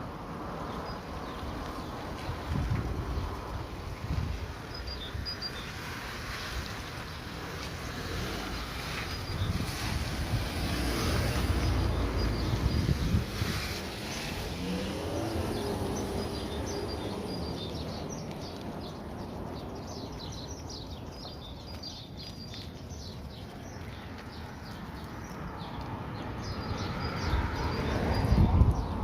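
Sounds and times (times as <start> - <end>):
outdoor background noise: 0.0 - 29.0
small birds chirping: 0.4 - 29.0.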